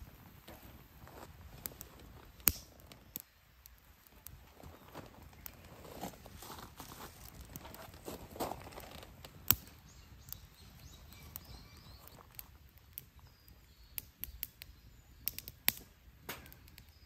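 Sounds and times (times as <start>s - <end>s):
faint birds chirping: 0.0s - 17.0s
fire crackling and popping: 0.0s - 17.0s.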